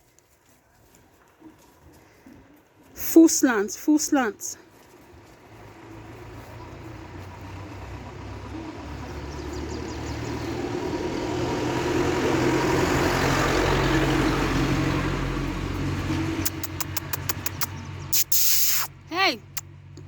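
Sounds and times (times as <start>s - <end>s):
vehicle engine humming: 0.8s - 20.0s.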